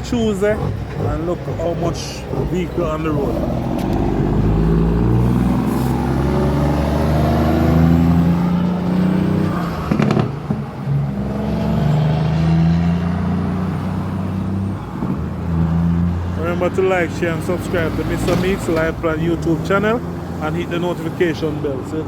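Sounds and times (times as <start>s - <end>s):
vehicle engine speeding up: 0.0s - 21.3s
road traffic: 0.0s - 22.0s.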